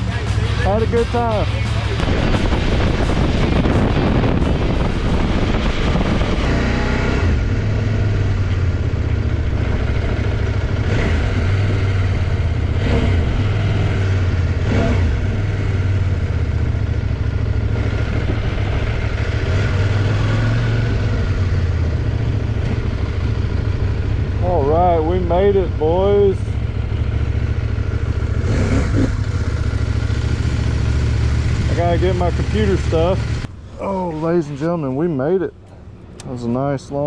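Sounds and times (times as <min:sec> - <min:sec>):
motorcycle engine running: 0:00.0 - 0:33.6.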